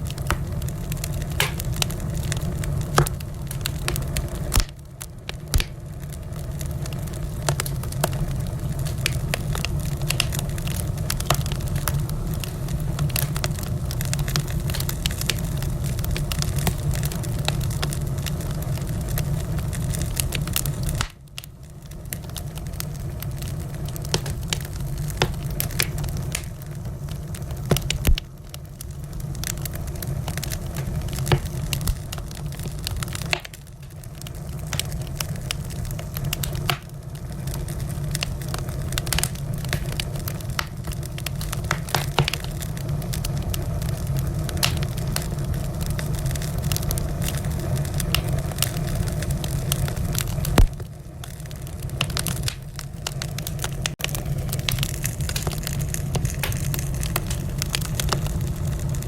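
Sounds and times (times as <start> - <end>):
fire crackling and popping: 0.0 - 59.0
rumble of fire flames: 0.0 - 59.0.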